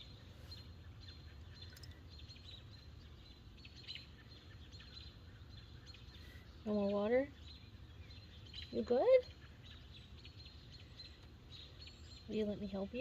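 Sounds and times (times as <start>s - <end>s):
faint high bird chirps: 0.0s - 13.0s
low steady hum: 0.0s - 13.0s.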